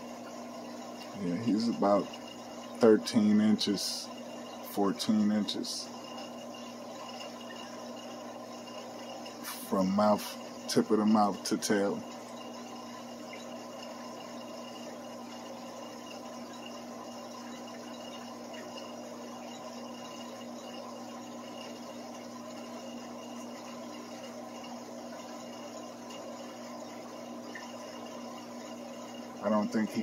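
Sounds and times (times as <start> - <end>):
aquarium filter pump hum: 0.0 - 30.0.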